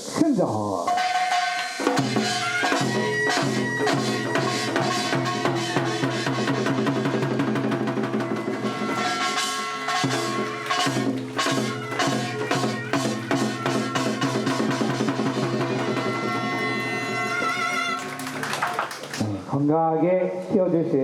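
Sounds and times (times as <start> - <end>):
drums keeping steady beat: 0.0 - 19.3.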